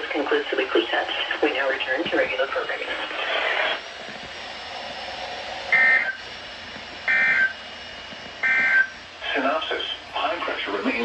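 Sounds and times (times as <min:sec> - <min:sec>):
receiver hiss: 0:00.0 - 0:04.4, 0:05.7 - 0:11.0.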